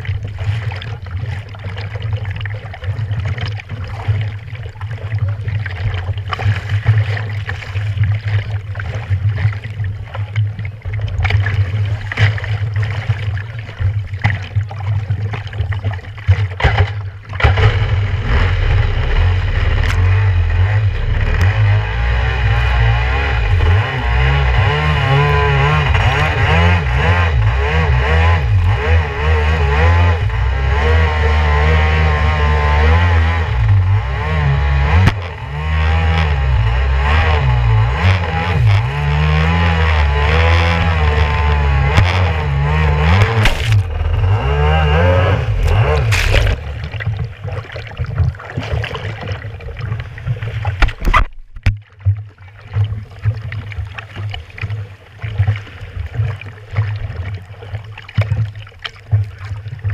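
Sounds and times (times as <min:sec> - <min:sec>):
jet ski engine: 0:00.0 - 0:59.9
water splashing against hull: 0:00.0 - 0:59.9.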